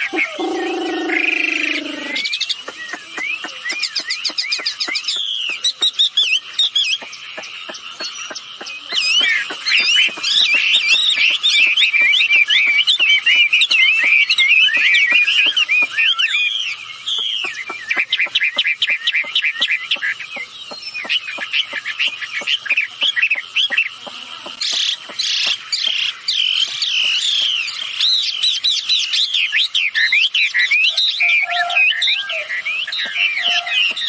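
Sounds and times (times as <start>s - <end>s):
bird singing whistled trills: 0.0s - 34.0s.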